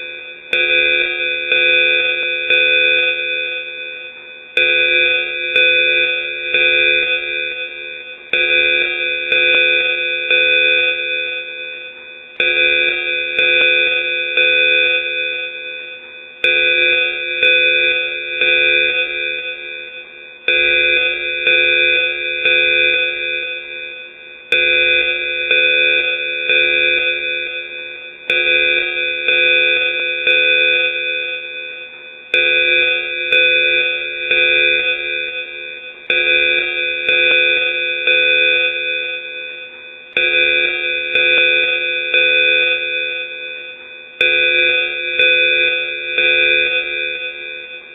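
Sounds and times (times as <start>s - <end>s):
electronic warning alarm tones: 0.0s - 47.9s.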